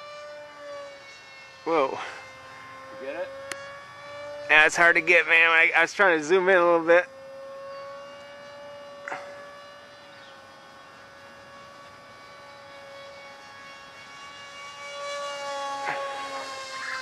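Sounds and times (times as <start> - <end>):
model airplane motor whining: 0.0 - 17.0.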